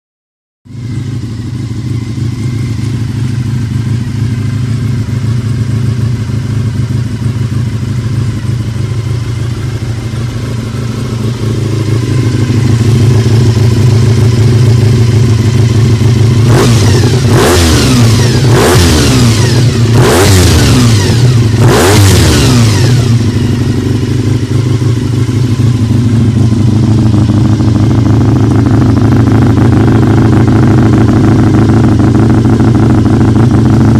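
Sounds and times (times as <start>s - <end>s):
motorcycle engine idling and revving: 0.7s - 33.9s.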